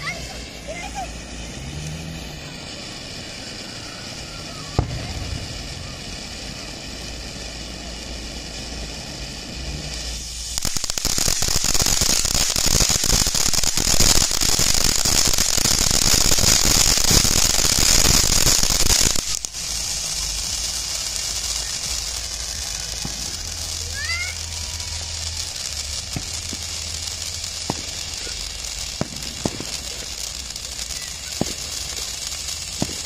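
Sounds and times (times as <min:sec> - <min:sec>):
dense firework crackle: 0:00.0 - 0:33.0
firework sparks hissing: 0:00.0 - 0:33.0.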